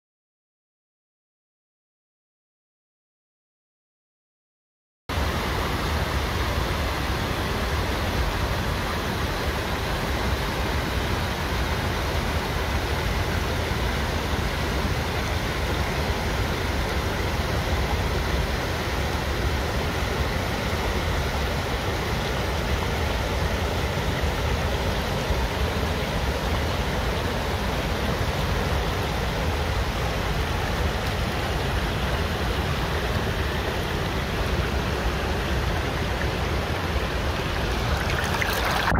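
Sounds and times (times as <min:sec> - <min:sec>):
water rushing over rocks: 0:05.1 - 0:38.9.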